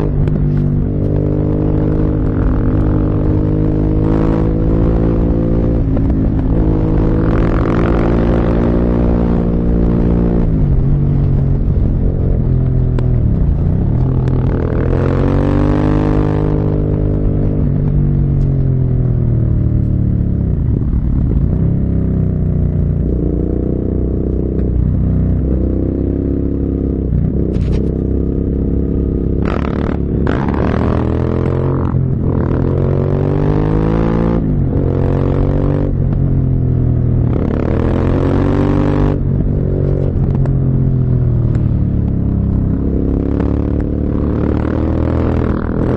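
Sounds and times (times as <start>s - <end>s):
motorcycle engine revving: 0.0s - 45.9s
wind noise: 0.0s - 45.9s.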